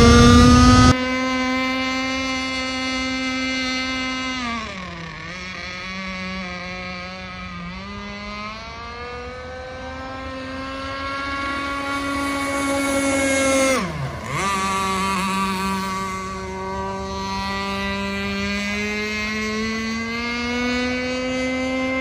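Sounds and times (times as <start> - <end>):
rc boat engine buzzing: 0.0 - 22.0.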